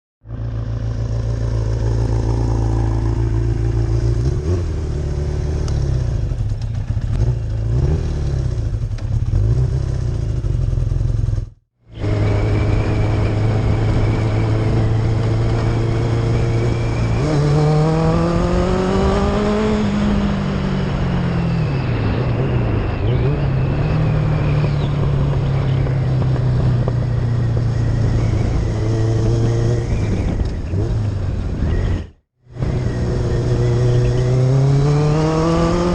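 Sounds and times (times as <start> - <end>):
motorcycle engine running: 0.2 - 35.9.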